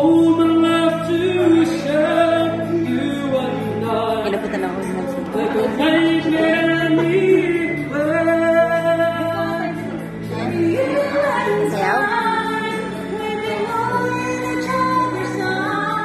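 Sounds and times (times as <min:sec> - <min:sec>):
backing music: 0:00.0 - 0:16.0.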